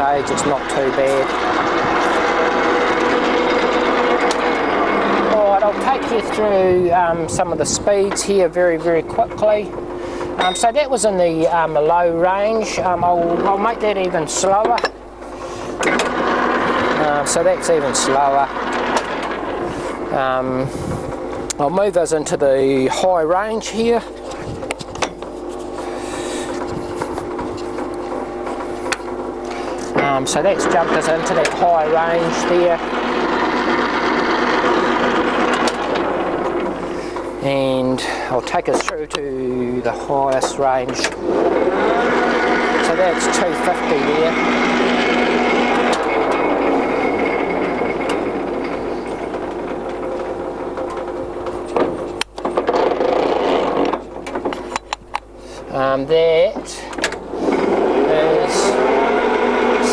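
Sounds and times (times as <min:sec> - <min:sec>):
lever clunks and rattles: 0:00.0 - 0:20.1, 0:24.1 - 0:25.8, 0:26.4 - 0:37.4, 0:40.2 - 0:55.4, 0:56.4 - 0:58.1
lathe gearing hum: 0:00.0 - 0:59.9.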